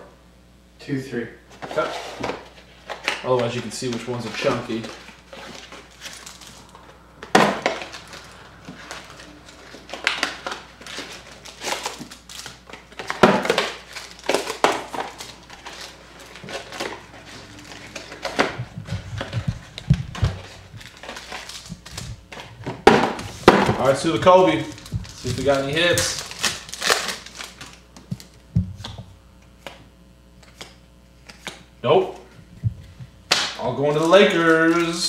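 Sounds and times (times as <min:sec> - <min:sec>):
packs crinkling and rustling: 0:01.8 - 0:29.0, 0:32.8 - 0:35.0.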